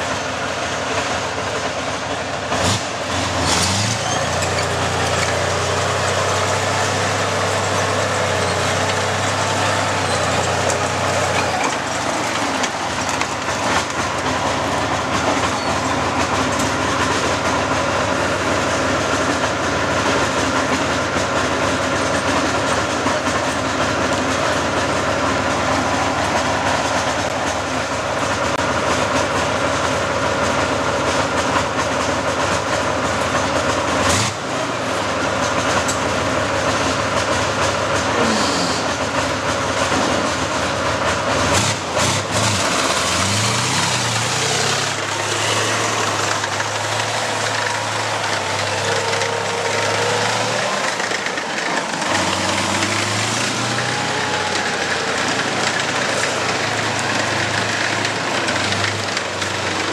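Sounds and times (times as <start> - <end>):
diesel engine starting and idling: 0.0 - 59.9
heavy machinery running: 0.0 - 59.9.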